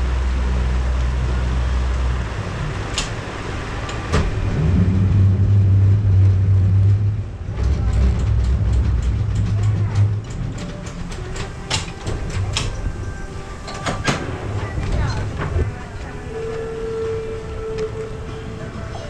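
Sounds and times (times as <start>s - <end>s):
ferry engine drone: 0.0s - 19.0s.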